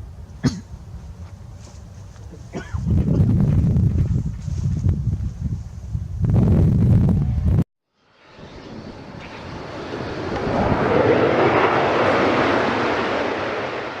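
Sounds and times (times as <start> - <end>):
jet airliner engine noise: 0.0 - 14.0.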